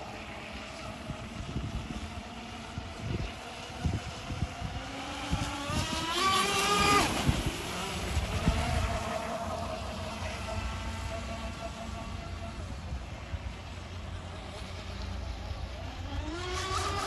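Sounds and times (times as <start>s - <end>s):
model boat motor whine: 0.0s - 17.0s
wind buffeting microphone: 0.8s - 14.7s.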